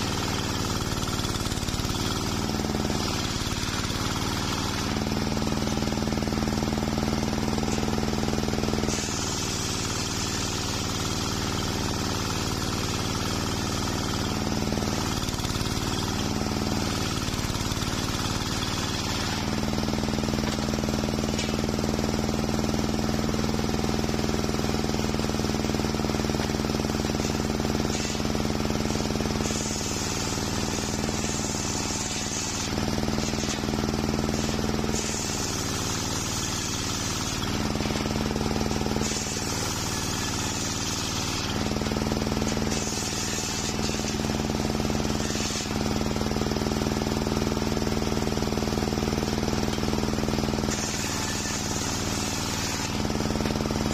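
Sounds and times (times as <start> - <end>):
circular saw cutting wood: 0.0 - 53.9.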